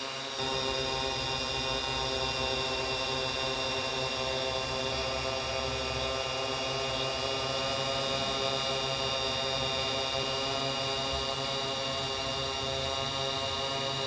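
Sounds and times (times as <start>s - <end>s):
drone propellers hovering hum: 0.0s - 14.0s.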